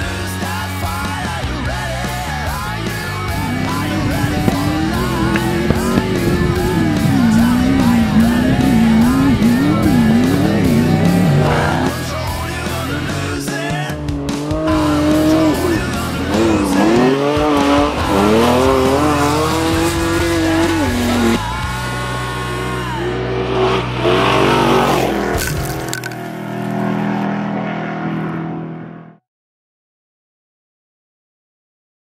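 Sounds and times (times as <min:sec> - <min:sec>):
rock music: 0:00.0 - 0:27.4
truck engines revving: 0:00.0 - 0:29.2.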